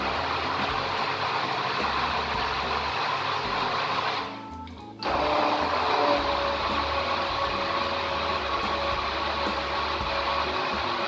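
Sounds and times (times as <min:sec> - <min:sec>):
immersion blender running: 0:00.0 - 0:04.4, 0:05.0 - 0:11.0.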